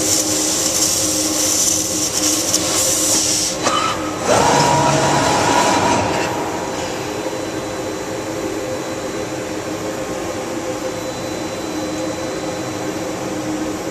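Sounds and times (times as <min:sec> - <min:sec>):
laser cutter hiss with whine: 0:00.0 - 0:13.9
machine mechanical hum: 0:00.0 - 0:13.9.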